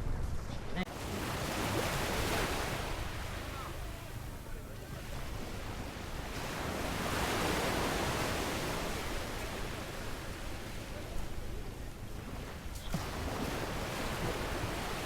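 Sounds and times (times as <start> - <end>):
wind rumble on microphone: 0.0 - 15.0
sea waves washing up beach: 0.9 - 15.0.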